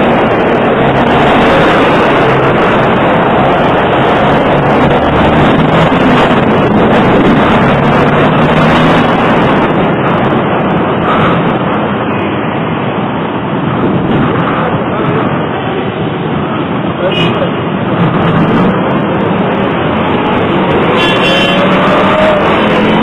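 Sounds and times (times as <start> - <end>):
city street traffic: 0.0 - 23.0
vehicle engines running: 0.0 - 23.0.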